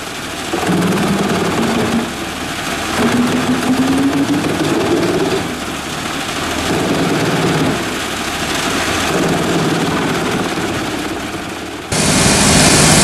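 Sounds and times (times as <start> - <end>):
wood chipper running under load: 0.0 - 13.0.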